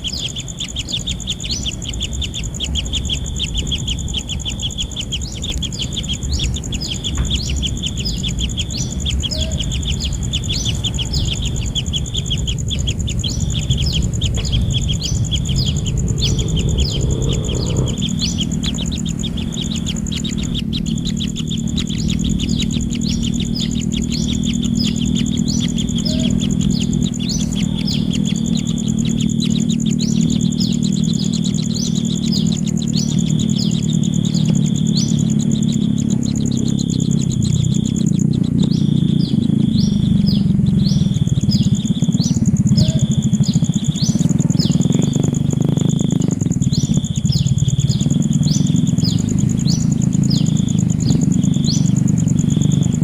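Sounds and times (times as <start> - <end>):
chicks chirping: 0.0 - 53.0
steady high whine: 0.0 - 53.0
loud low rumble: 5.4 - 53.0.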